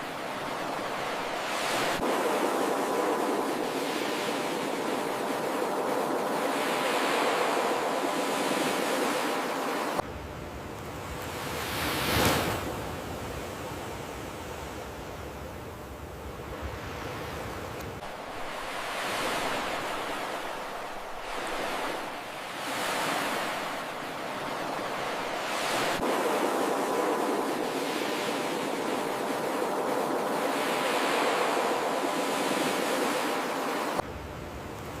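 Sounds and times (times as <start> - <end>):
ocean waves breaking: 0.0 - 10.0, 10.9 - 15.3, 16.0 - 34.1.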